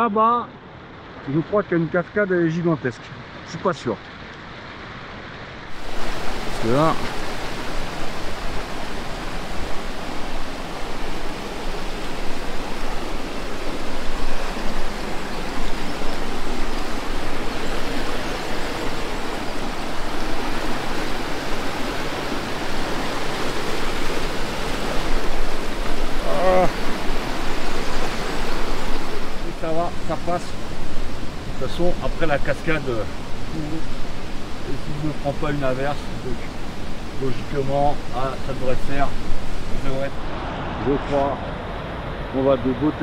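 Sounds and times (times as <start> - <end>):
waterfall rushing: 0.8 - 43.0.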